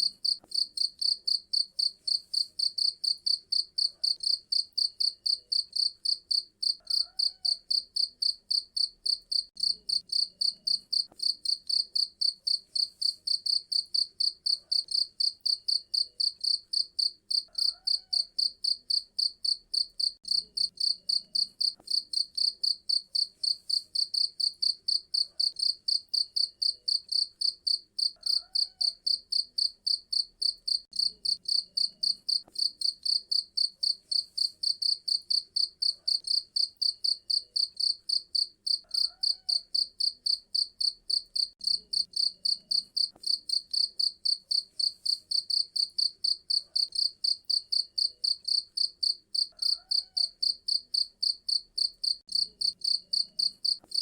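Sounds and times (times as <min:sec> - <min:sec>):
cricket chirping: 0:00.2 - 0:54.0.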